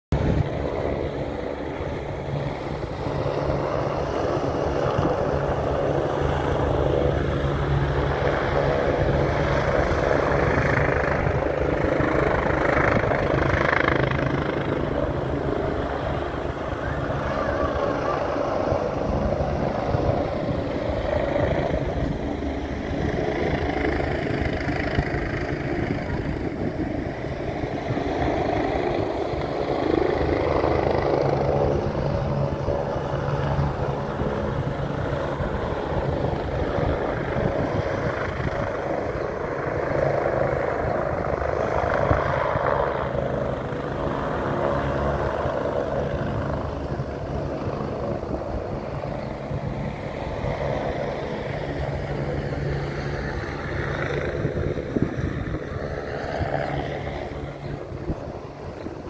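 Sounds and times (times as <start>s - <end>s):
low engine drone: 0.1s - 59.0s.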